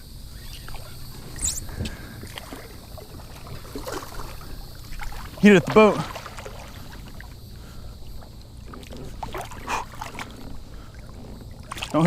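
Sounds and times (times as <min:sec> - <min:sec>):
water lapping around kayak: 0:00.0 - 0:12.0
fish splashing: 0:00.3 - 0:12.0.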